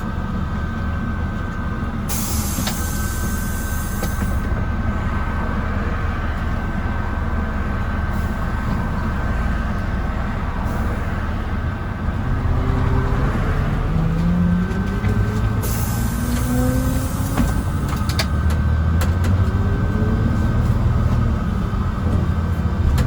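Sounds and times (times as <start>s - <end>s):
bus diesel engine: 0.0s - 23.0s
road rumble: 0.0s - 23.0s.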